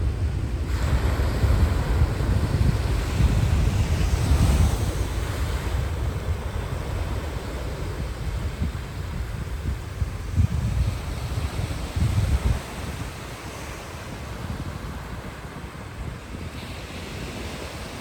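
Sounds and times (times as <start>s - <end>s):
sea waves breaking on sand: 0.0s - 18.0s
wind buffeting microphone: 0.0s - 18.0s.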